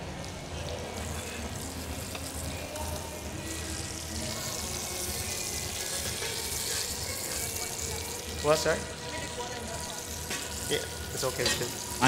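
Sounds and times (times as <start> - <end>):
faint background music: 0.0 - 12.0
food hissing in pots: 1.0 - 12.0.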